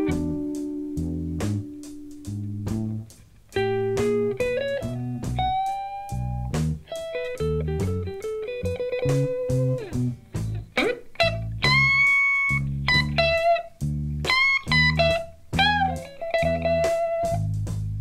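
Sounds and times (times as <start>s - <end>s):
bass guitar: 0.0s - 18.0s
blues record playing: 0.0s - 18.0s
electric guitar with string bend: 0.0s - 18.0s.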